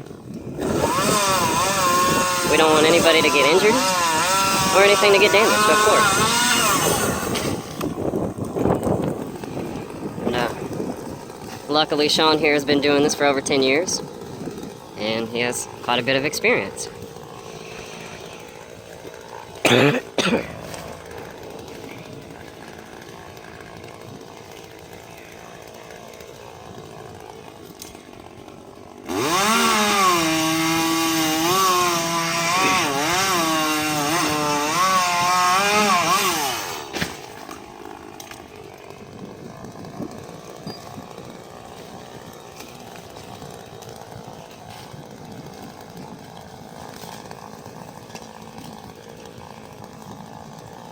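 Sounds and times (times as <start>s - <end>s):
chainsaw revving: 0.0s - 50.9s.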